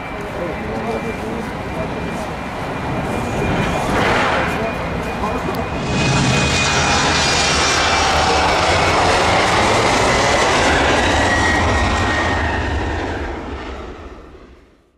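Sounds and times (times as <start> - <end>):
jet engines at take-off: 0.0 - 14.9.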